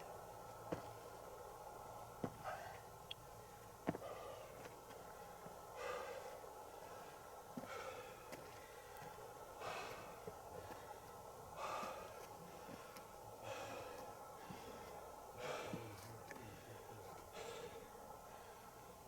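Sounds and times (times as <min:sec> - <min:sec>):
slow breathing: 0:00.5 - 0:19.0.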